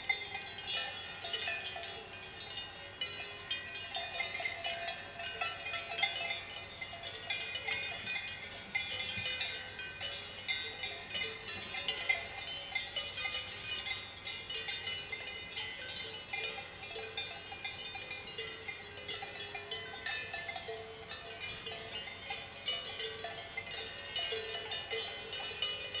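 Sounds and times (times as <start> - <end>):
cowbells clanking: 0.0 - 26.0.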